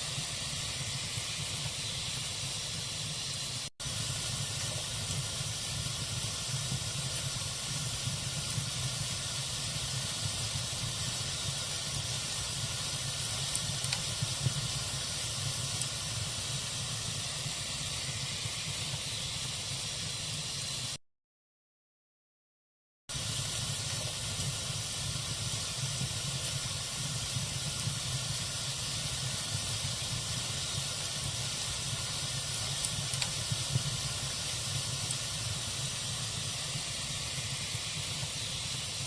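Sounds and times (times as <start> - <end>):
faint fire crackles: 0.0 - 21.0, 23.1 - 39.0
log fire hissing: 0.0 - 21.0, 23.1 - 39.0.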